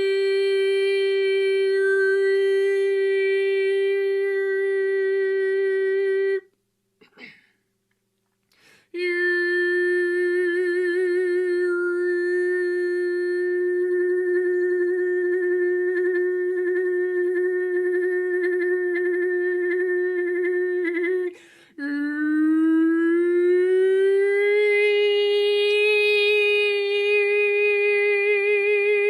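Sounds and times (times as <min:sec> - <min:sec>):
person singing long held note: 0:00.0 - 0:06.5, 0:08.9 - 0:29.0.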